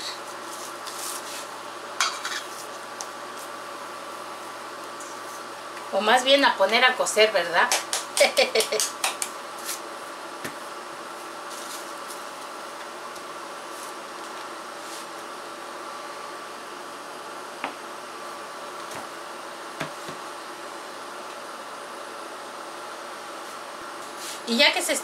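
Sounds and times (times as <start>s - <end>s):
induction cooktop humming: 0.0s - 25.0s.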